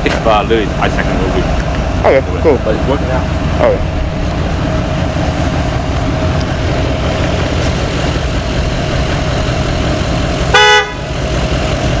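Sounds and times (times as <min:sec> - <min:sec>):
air compressor running: 0:00.3 - 0:12.0.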